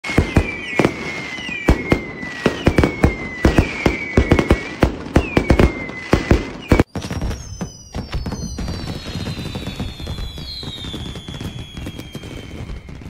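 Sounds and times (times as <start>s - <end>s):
fireworks banging: 0.0s - 13.0s
whistling firework shells: 0.0s - 13.0s.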